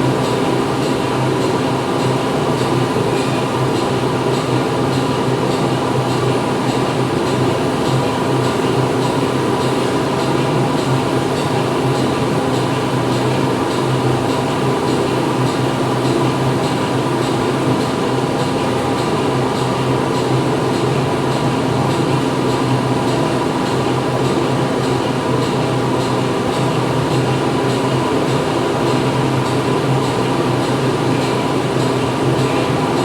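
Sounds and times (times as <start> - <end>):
factory machinery running: 0.0 - 33.0.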